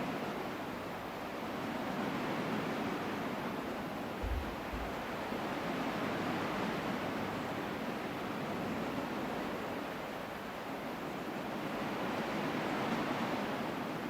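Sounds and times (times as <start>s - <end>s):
ocean waves washing on shore: 0.0s - 14.0s.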